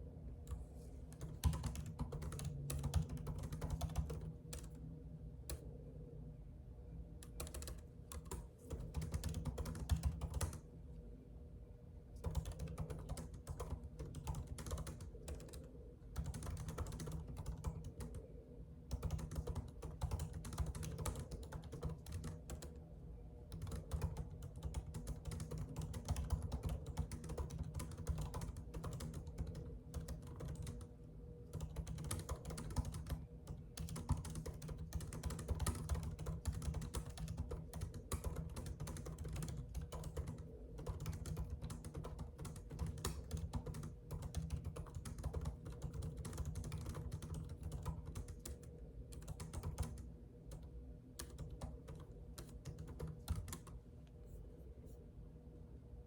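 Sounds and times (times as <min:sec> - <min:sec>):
low steady hum: 0:00.0 - 0:56.0
typing on computer keyboard: 0:00.5 - 0:04.8, 0:07.2 - 0:10.6, 0:12.2 - 0:18.3, 0:18.9 - 0:22.8, 0:23.5 - 0:30.9, 0:31.5 - 0:53.8.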